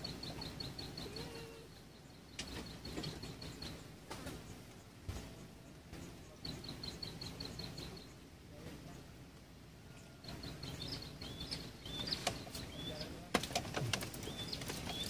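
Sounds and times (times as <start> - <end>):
small bird chirping: 0.0 - 9.2, 9.8 - 15.0
low steady rumble: 0.0 - 15.0.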